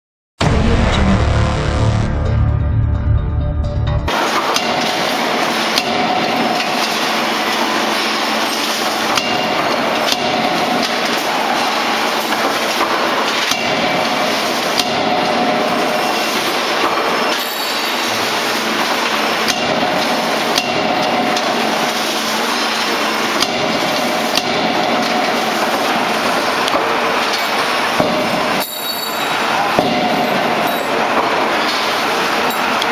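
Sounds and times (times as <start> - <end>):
machine noise din: 0.4 - 32.9
forging hammer striking steel: 4.1 - 32.9.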